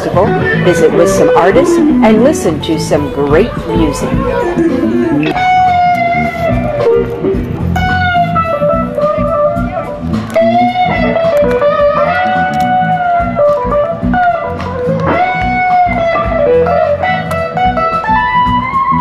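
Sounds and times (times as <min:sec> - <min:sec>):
bass accompaniment: 0:00.0 - 0:19.0
blues electric guitar: 0:00.0 - 0:19.0.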